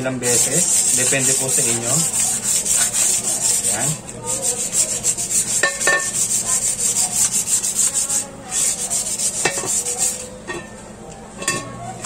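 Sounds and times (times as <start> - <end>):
sandpaper rubbing on metal rim: 0.2 - 10.4.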